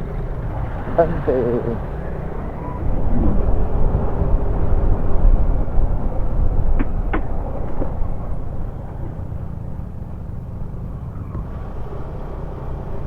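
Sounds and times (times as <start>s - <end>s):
scooter engine: 0.0s - 13.0s
wind rumble on microphone: 0.0s - 13.0s.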